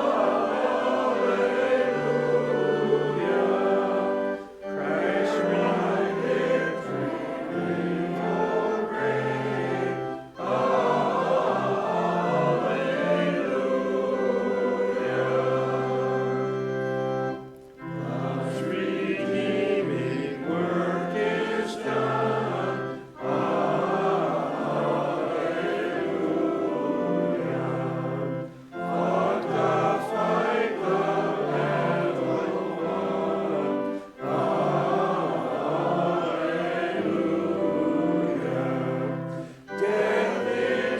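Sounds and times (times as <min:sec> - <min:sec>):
group singing a hymn: 0:00.0 - 0:40.9
musical accompaniment: 0:00.0 - 0:40.9.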